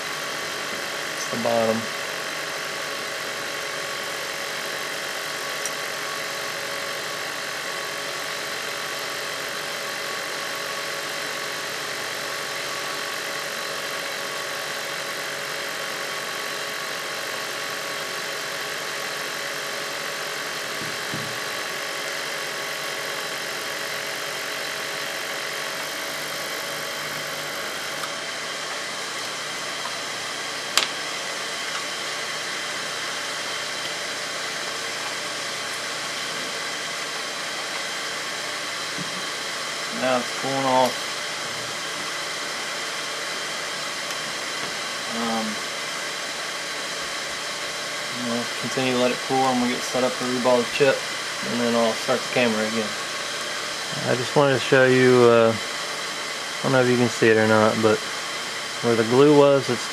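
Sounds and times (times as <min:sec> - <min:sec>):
air blower whirring hiss: 0:00.0 - 0:59.9.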